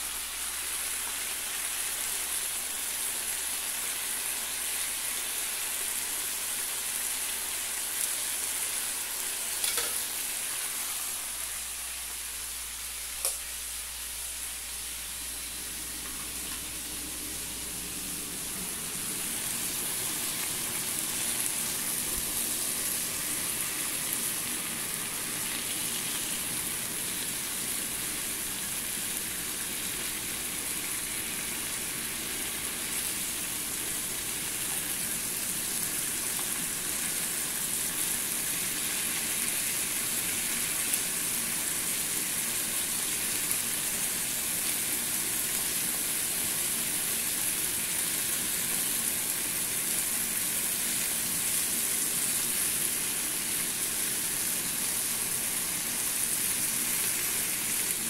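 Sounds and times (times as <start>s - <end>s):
chicken sizzling in a frying pan: 0.0s - 58.0s.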